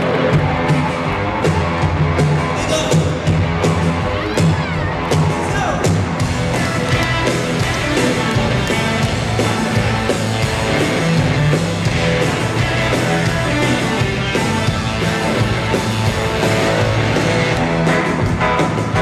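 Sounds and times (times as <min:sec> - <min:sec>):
electric guitar: 0:00.0 - 0:19.0
live rock band playing: 0:00.0 - 0:19.0
steady drum beat: 0:00.0 - 0:19.0.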